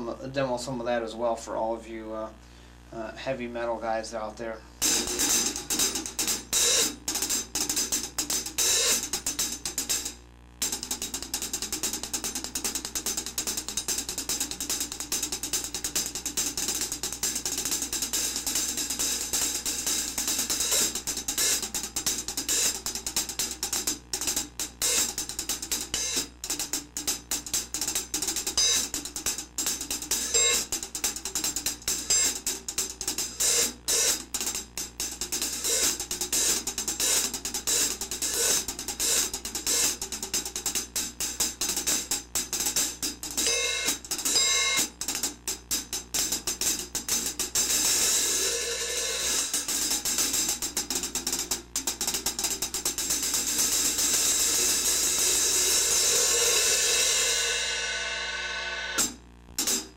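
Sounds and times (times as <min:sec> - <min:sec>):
hi-hat cymbal strokes: 0:04.6 - 0:59.9.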